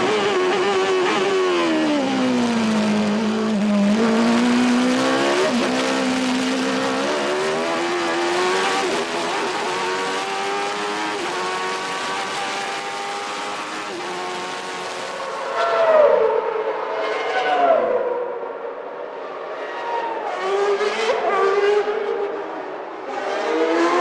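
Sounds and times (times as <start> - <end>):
racing car engine: 0.0 - 24.0.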